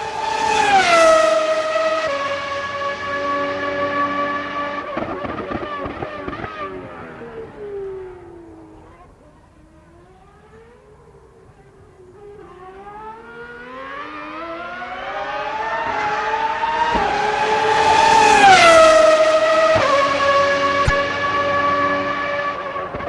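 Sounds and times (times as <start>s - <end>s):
race car engine passing by: 0.0s - 8.7s, 12.6s - 23.0s.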